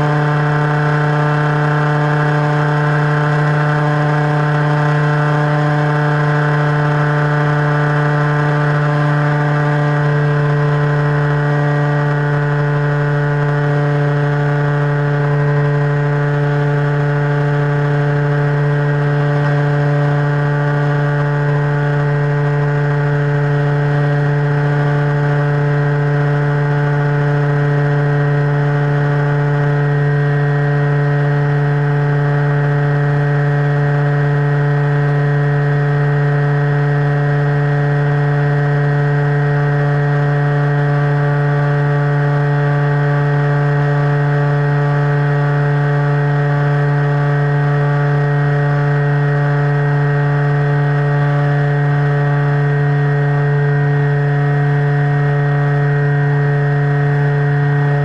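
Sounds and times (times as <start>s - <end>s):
model airplane motor humming: 0.0s - 58.0s.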